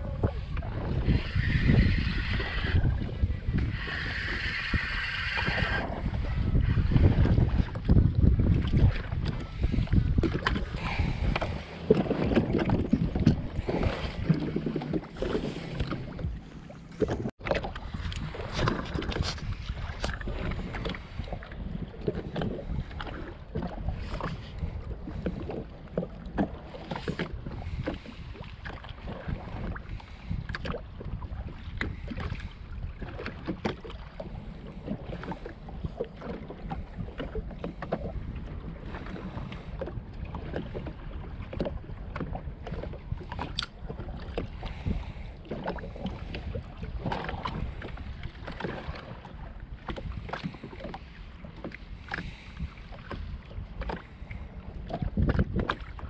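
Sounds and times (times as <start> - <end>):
small waves slapping against hull: 0.0 - 56.0
wind rumble on microphone: 0.0 - 56.0.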